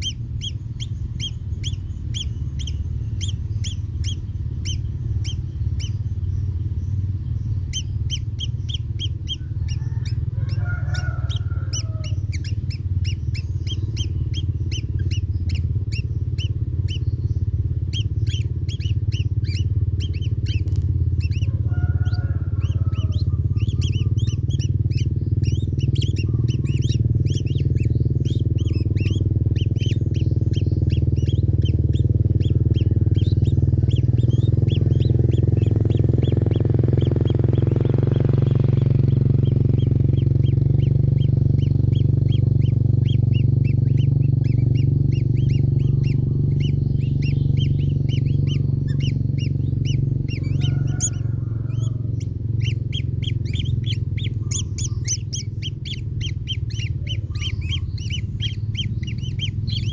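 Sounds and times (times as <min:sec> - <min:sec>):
bird nestlings chirping: 0:00.0 - 0:59.9
loud steady low hum: 0:00.0 - 0:59.9.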